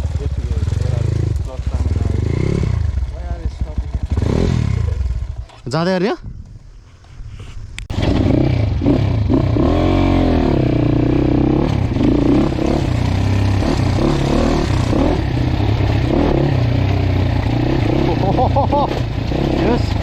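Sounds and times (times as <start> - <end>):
dirt bike engine revving: 0.0 - 5.4, 7.9 - 20.0.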